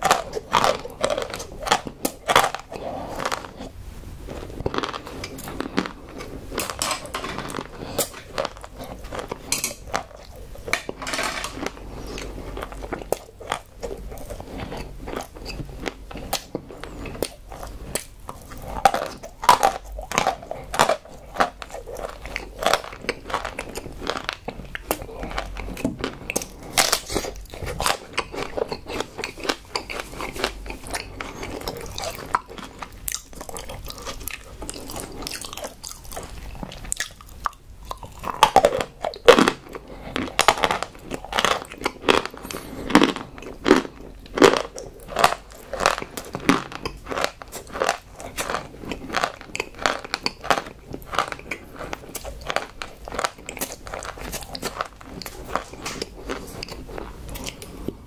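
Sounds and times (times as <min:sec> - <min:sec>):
wet crunching chewing: 0:00.0 - 0:58.0.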